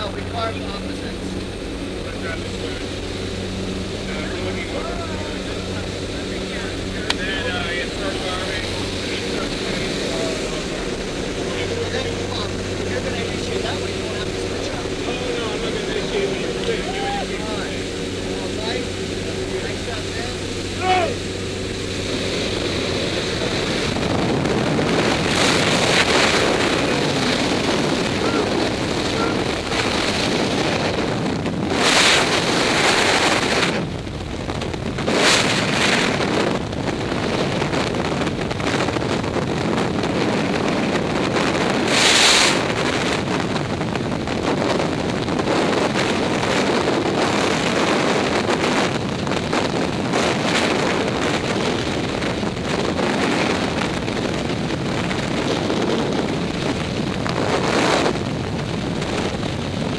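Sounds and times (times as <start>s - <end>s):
steady rumbling noise: 0.0s - 59.9s
wind buffeting microphone: 0.0s - 59.9s.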